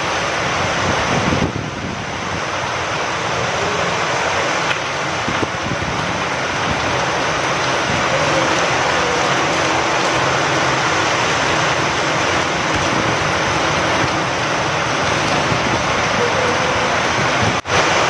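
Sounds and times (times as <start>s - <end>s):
rain falling: 0.0s - 18.0s
wind: 0.0s - 18.0s.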